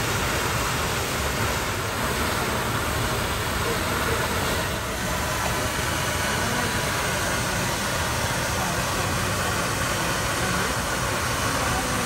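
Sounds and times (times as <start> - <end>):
boat engine humming: 0.0 - 12.0
water rushing: 0.0 - 12.0.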